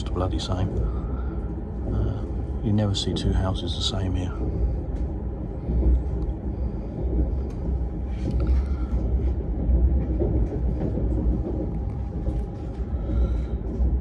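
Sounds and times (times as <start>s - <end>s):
train rumbling at speed: 0.0s - 14.0s.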